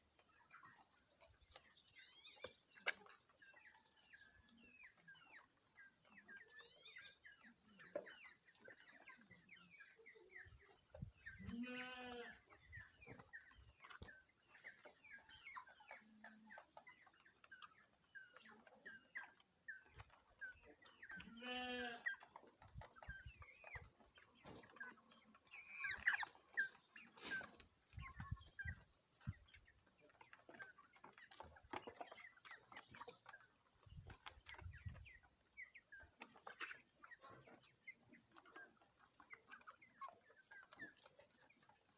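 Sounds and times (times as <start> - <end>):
drawn-out poultry calls: 0.0 - 41.9
poultry chirping and clucking: 0.0 - 41.9.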